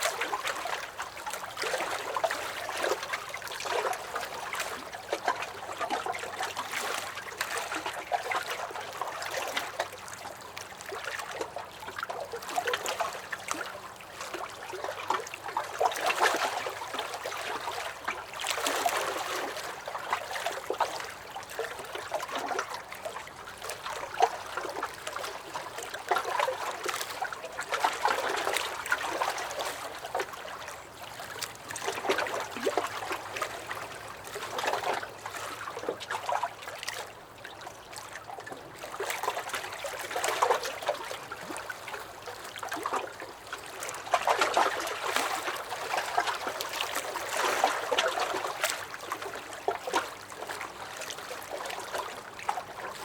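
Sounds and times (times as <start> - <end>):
waves lapping against a dock: 0.0 - 53.0.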